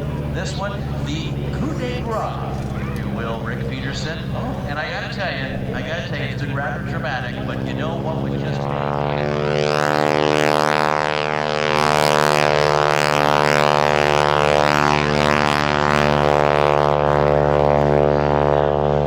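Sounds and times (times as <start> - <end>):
biplane engine and propeller droning: 0.0 - 19.0.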